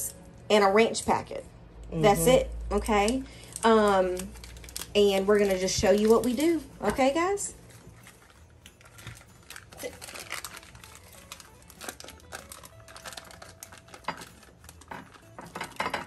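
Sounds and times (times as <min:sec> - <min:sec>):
foil wrapper crinkling: 0:02.9 - 0:16.0.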